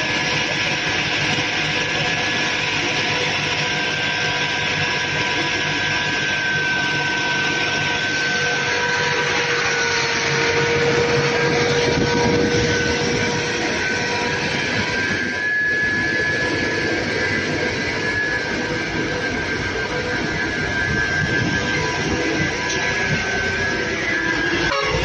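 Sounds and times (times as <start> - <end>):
high-pressure water jet roaring: 0.0 - 25.0
steady whine: 0.0 - 25.0.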